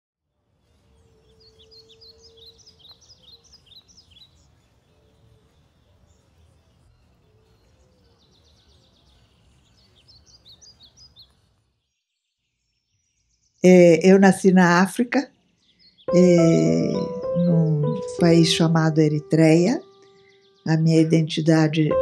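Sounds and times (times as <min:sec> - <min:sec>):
birds chirping: 0:00.9 - 0:11.4, 0:13.6 - 0:22.0.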